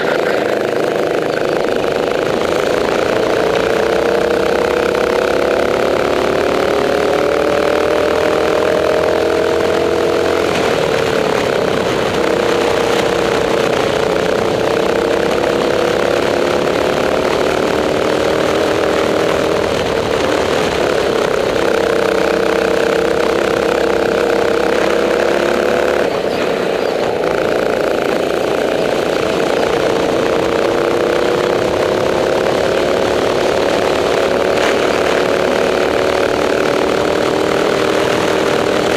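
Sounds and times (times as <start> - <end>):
kart engine racing: 0.0 - 38.9.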